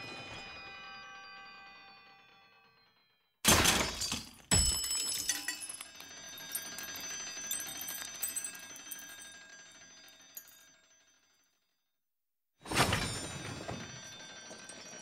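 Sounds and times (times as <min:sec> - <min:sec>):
alarm clock bells ringing: 0:00.0 - 0:03.4, 0:04.6 - 0:11.7, 0:13.0 - 0:15.0.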